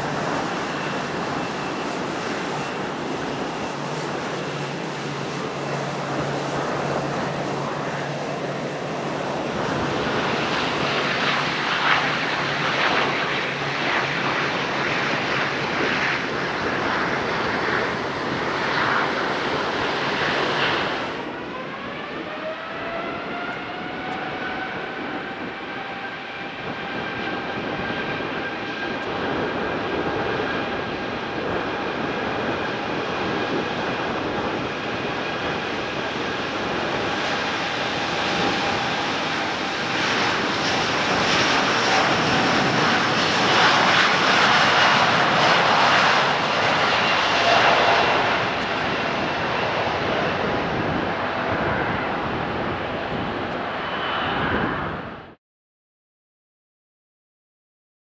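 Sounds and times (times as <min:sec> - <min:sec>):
jet engines spooling up whine: 0:00.0 - 0:55.4.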